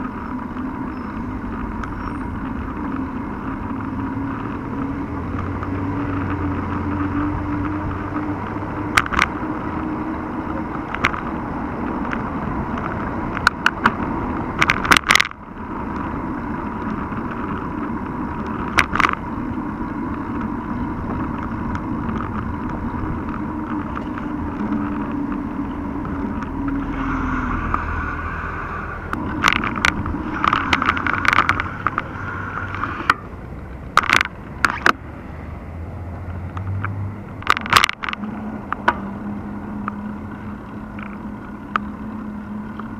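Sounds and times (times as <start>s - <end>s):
car traffic: 0.0s - 42.9s
rumble of tyres and wind: 0.0s - 42.9s.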